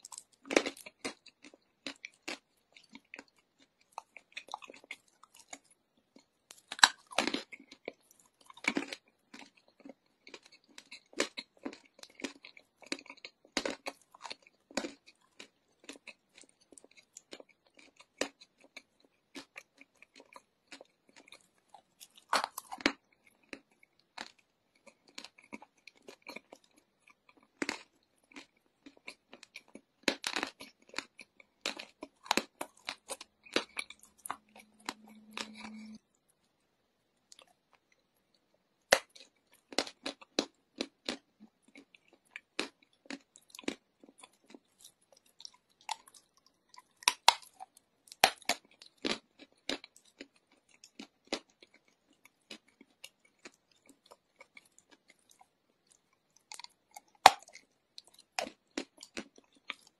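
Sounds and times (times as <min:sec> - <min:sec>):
chewing and crunching chalk: 0:00.0 - 0:59.9.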